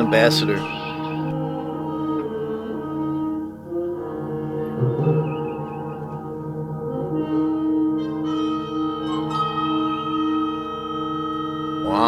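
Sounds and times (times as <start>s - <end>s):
music of sustained ringing tones: 0.0s - 12.0s.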